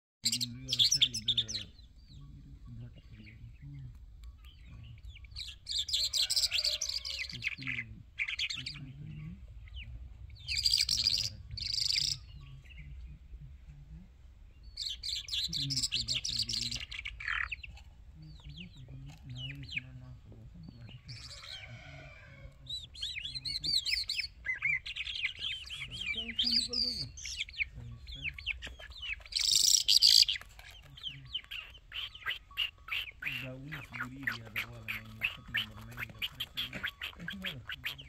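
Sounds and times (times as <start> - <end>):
songbird high twittering: 0.2 - 13.8, 14.4 - 38.0.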